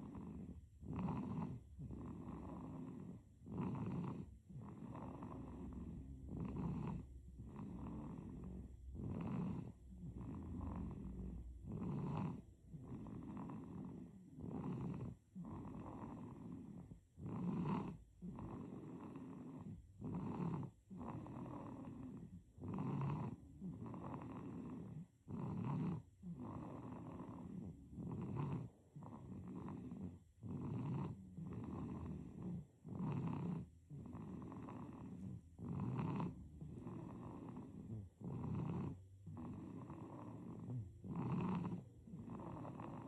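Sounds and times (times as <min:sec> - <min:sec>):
baby snoring: 0:00.0 - 0:43.0.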